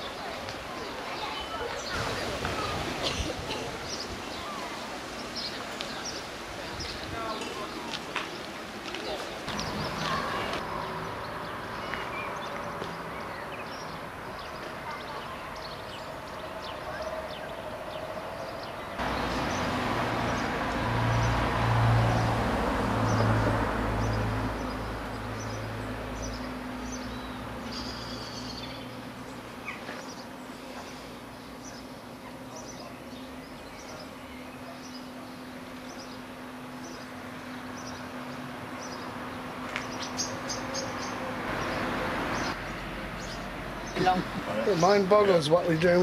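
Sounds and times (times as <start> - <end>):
small birds chirping: 0.0 - 21.4, 24.0 - 46.0.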